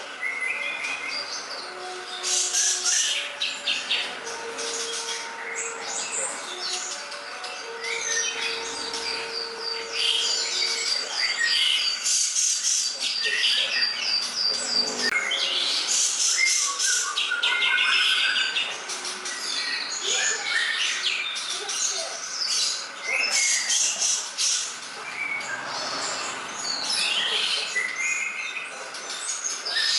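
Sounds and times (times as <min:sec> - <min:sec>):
songbirds chirping and trilling: 0:00.0 - 0:29.9.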